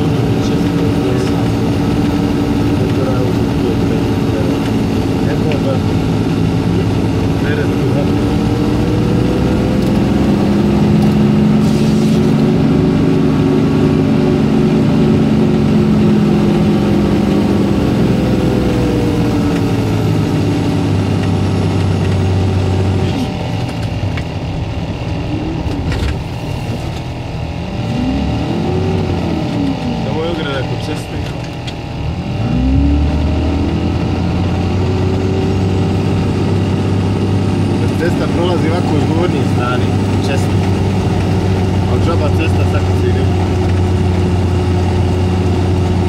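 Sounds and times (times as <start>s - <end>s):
vehicle engine running: 0.0s - 46.0s.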